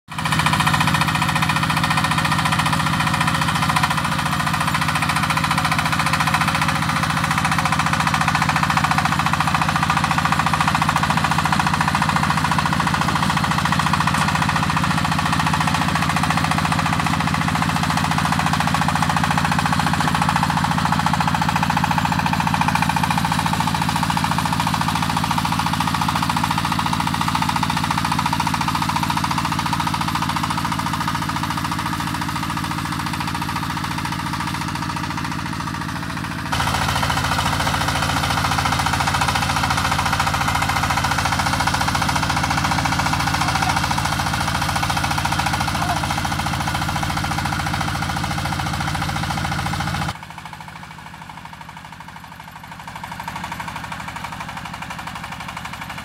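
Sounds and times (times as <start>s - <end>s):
diesel tractor engine running: 0.1s - 56.0s.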